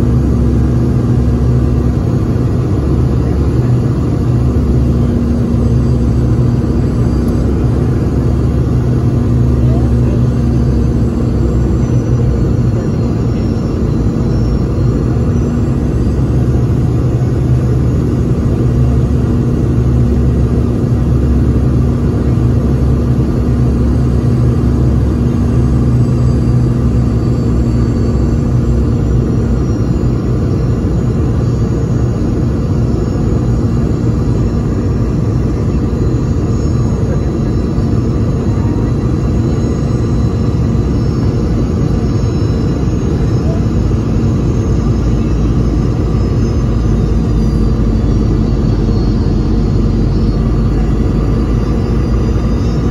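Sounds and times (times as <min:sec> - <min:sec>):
airplane cabin rumble: 0:00.0 - 0:52.9
faint high jet engine whine: 0:00.0 - 0:52.9.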